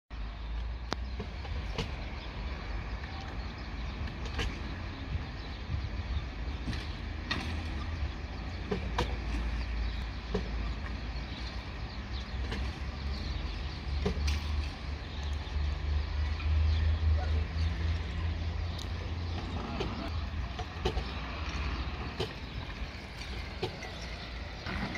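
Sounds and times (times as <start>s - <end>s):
low wind rumble: 0.2s - 24.9s.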